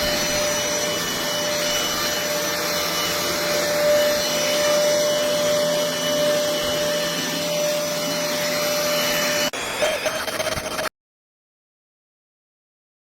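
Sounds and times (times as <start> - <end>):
stick vacuum cleaner running: 0.0 - 10.9.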